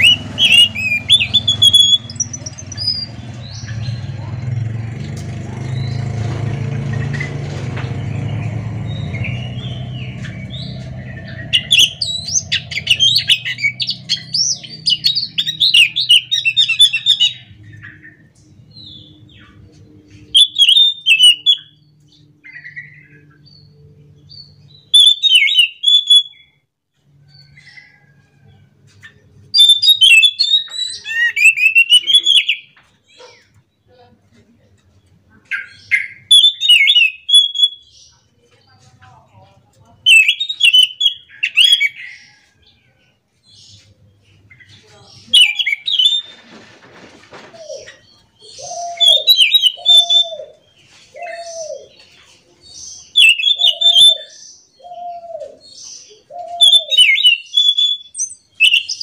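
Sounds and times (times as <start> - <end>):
thrush singing twittering song: 0.0 - 33.9, 35.4 - 46.6, 47.4 - 59.0.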